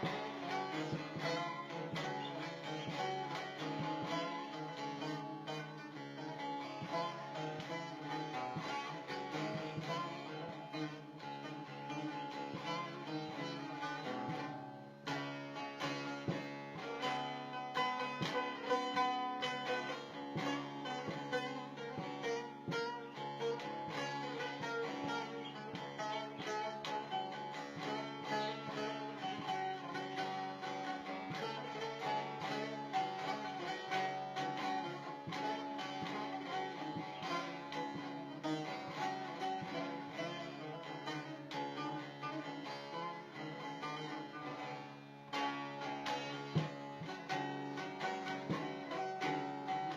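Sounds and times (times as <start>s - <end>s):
plucked string instrumental music: 0.0s - 49.9s.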